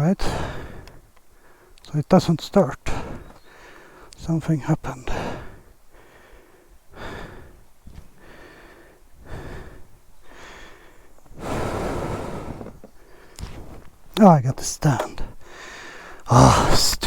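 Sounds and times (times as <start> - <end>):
heavy breathing: 0.2 - 1.9, 2.8 - 17.0.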